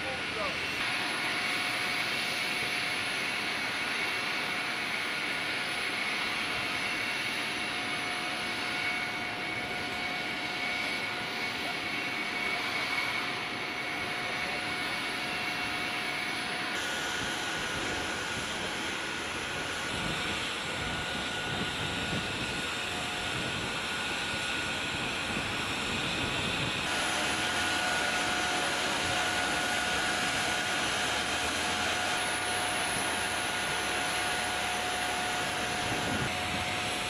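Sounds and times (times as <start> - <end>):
jet turbine whine: 0.0 - 37.0.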